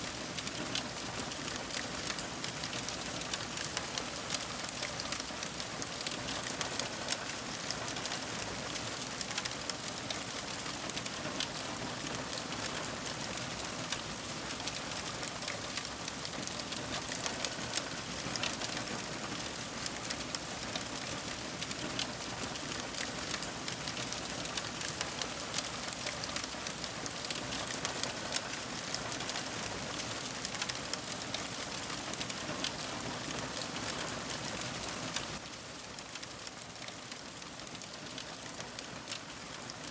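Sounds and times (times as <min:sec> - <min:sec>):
wood fire crackling: 0:00.2 - 0:11.5, 0:12.6 - 0:39.5.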